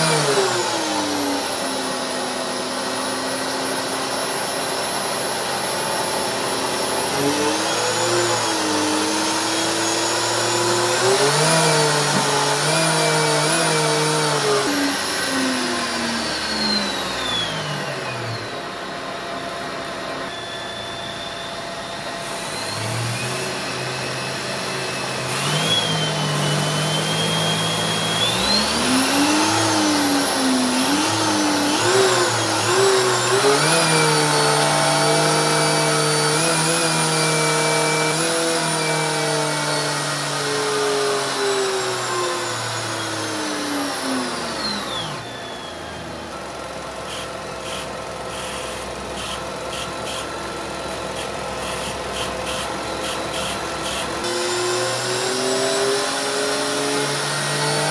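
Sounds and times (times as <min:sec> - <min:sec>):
electric motor running: 0:00.0 - 0:21.2, 0:22.0 - 0:46.3, 0:47.1 - 0:57.9.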